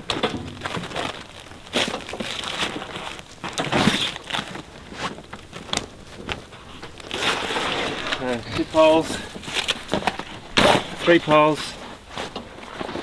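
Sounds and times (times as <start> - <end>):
awning poles knocking and clicking: 0.0 - 4.0, 5.0 - 13.0
rustling: 0.0 - 13.0.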